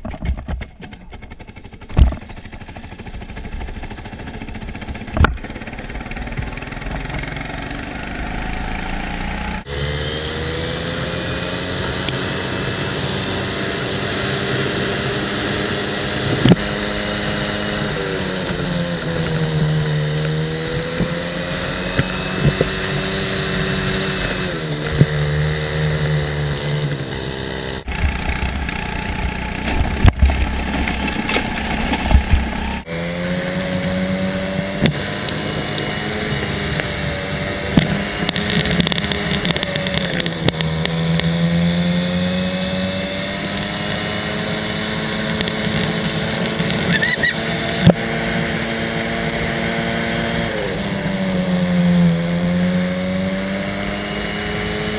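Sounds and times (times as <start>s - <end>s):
go-kart engine revving: 0.0s - 54.9s.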